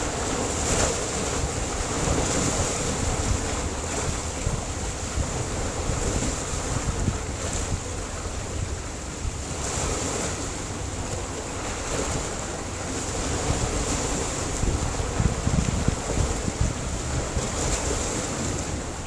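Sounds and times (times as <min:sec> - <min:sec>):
waves washing against rocks: 0:00.0 - 0:19.0
wind rumble on microphone: 0:00.0 - 0:19.0.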